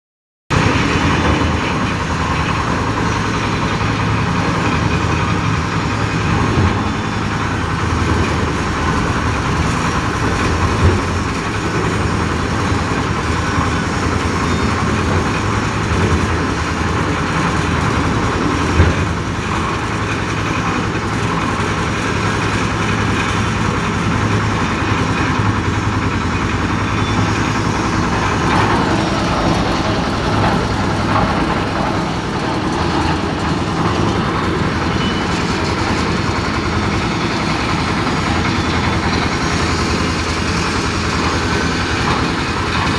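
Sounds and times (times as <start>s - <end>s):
concrete mixer engine humming: 0.5s - 42.9s.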